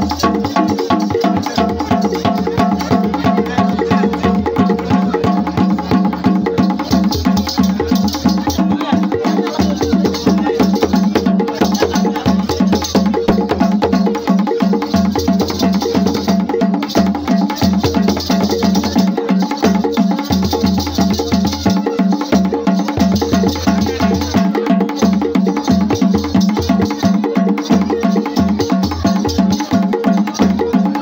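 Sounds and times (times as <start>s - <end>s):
drums playing fast beat: 0.0s - 31.0s.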